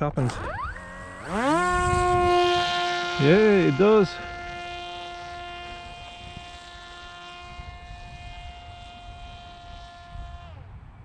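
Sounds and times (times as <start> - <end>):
drone propeller motor whining: 0.0 - 11.0.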